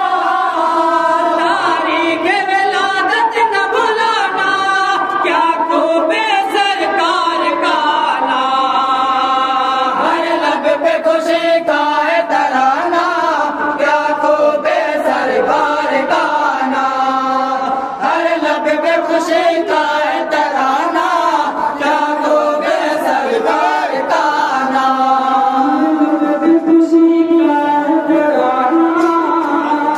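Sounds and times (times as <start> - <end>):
men chanting in unison: 0.0 - 29.9.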